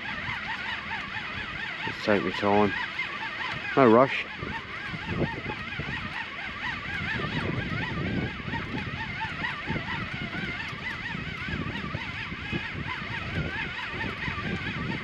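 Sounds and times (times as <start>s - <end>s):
fishing reel whining: 0.0s - 15.0s.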